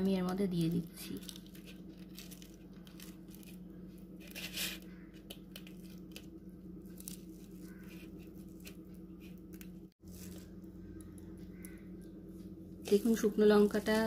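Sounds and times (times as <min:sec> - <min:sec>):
steady low hum: 0:00.0 - 0:14.0
faint crackles and rustles: 0:00.2 - 0:11.7
fingers crushing dried chillies: 0:00.2 - 0:12.2.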